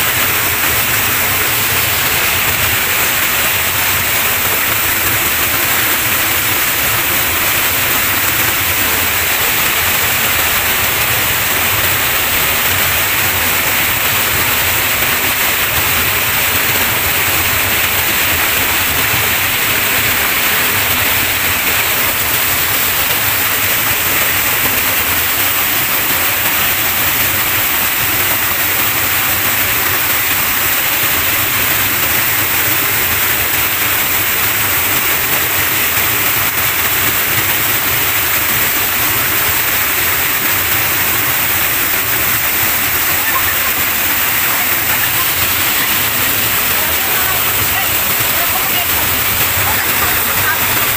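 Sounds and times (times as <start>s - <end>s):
waterfall pouring into pool: 0.0s - 50.9s.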